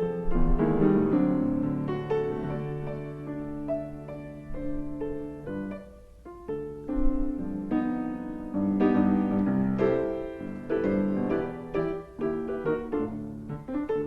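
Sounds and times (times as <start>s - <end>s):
solo piano melody: 0.0s - 14.0s.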